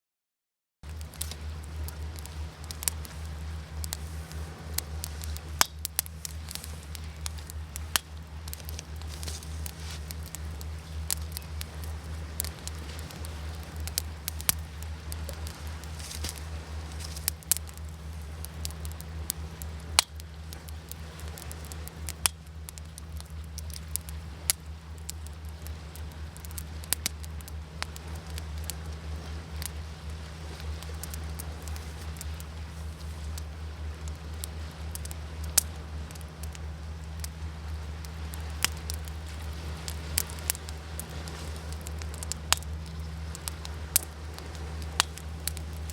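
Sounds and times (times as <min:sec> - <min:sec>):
steady low rumble: 0:00.8 - 0:45.9
wood fire crackling and popping: 0:00.8 - 0:45.9.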